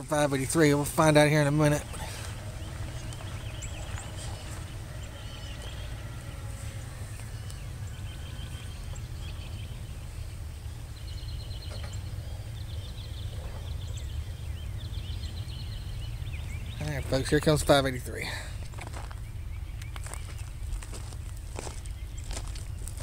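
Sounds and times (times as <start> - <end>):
low outdoor rumble: 0.0 - 23.0
small birds chirping: 0.0 - 23.0.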